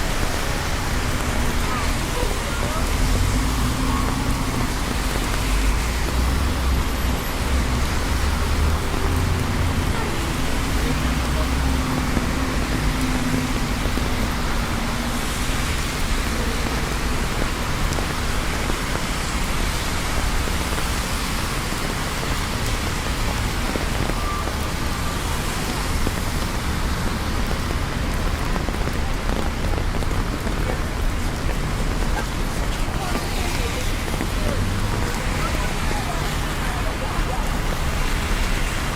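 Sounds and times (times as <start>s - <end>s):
low traffic rumble: 0.0s - 38.9s
rain hissing: 0.0s - 38.9s.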